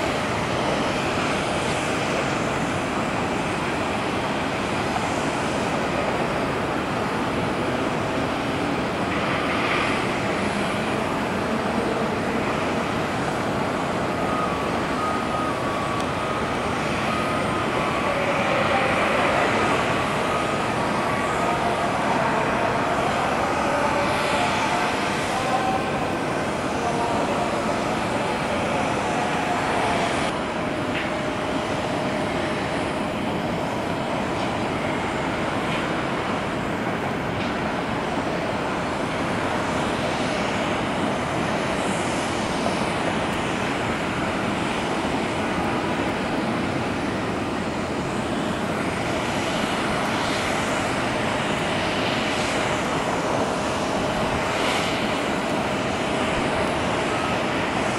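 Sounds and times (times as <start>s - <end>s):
jet engine rumble: 0.0s - 57.9s
jet engine whine: 0.0s - 57.9s.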